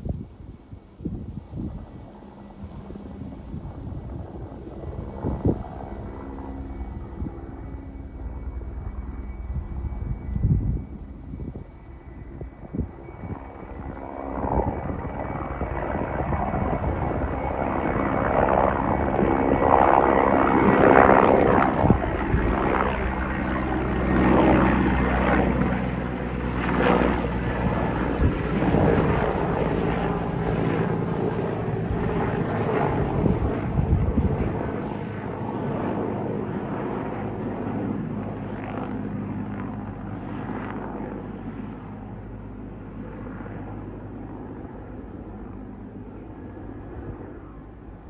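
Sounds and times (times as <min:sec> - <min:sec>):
helicopter rotor and engine: 0:00.0 - 0:48.0.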